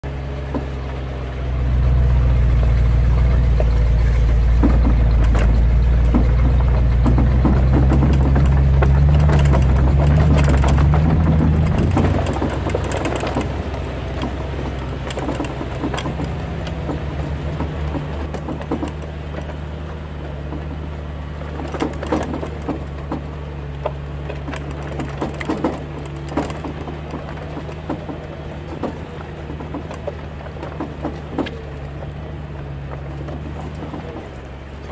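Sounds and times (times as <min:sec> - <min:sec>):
knocks and rattles: 0:00.0 - 0:34.9
truck engine droning: 0:00.0 - 0:34.9.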